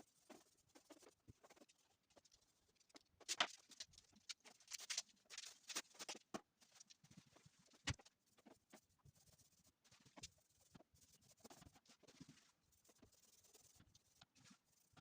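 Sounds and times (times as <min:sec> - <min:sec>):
paintbrush strokes: 0:00.0 - 0:15.0.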